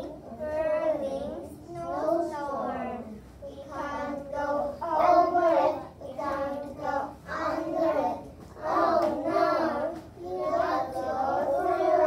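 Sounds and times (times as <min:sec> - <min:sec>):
children chanting in unison: 0:00.0 - 0:12.0.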